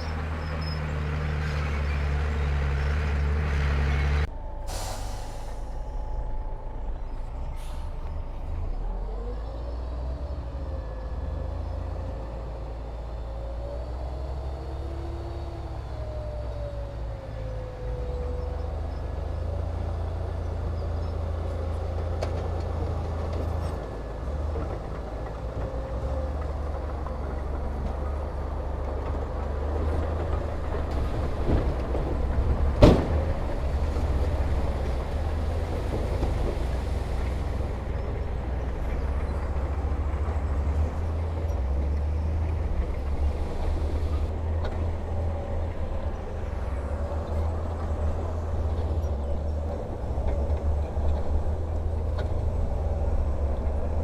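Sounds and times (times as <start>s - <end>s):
bulldozer diesel engine rumbling: 0.0s - 54.0s.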